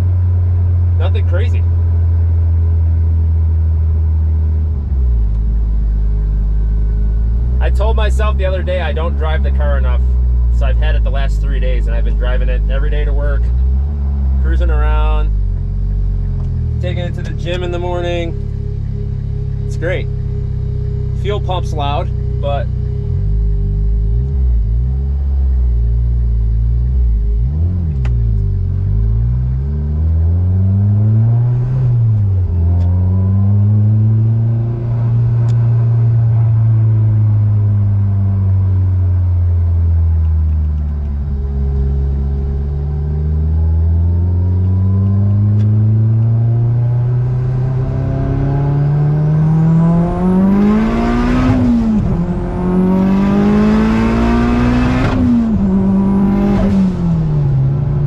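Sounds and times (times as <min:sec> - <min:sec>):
car engine revving: 0:00.0 - 0:58.0
turbo whine: 0:00.0 - 0:58.0.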